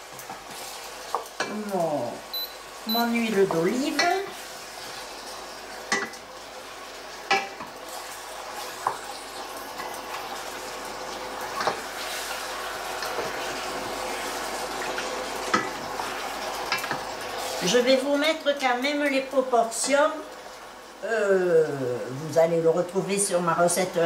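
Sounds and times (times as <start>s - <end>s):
squid sizzling in oil: 0.0s - 22.3s.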